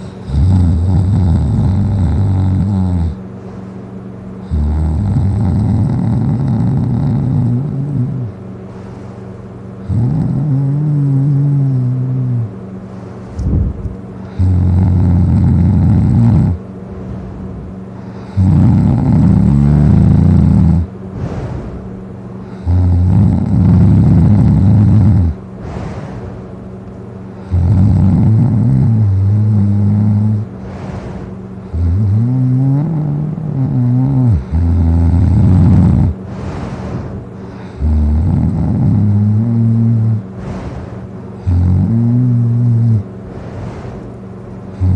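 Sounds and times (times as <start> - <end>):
person snoring loudly: 0.0 - 3.2, 4.4 - 8.4, 9.8 - 12.5, 14.2 - 16.6, 18.0 - 26.2, 27.4 - 44.0.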